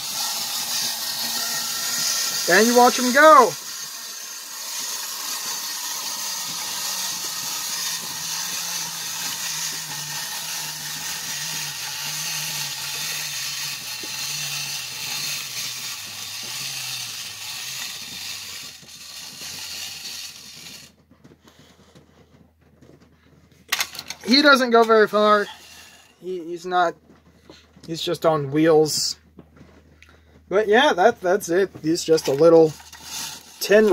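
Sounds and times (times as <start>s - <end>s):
clockwork toy motor whirring: 0.0s - 21.6s, 23.7s - 26.9s, 27.8s - 29.1s, 30.7s - 33.9s.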